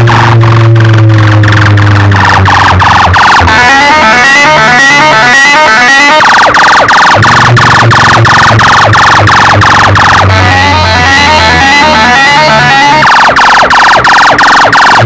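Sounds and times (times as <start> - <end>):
electronic dance music: 0.0 - 15.0
siren-like synth sweeps: 0.0 - 15.0.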